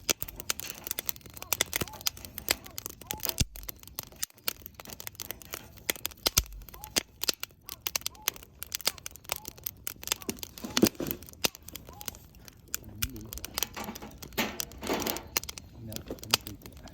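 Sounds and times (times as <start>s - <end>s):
campfire crackling and popping: 0.0s - 16.9s.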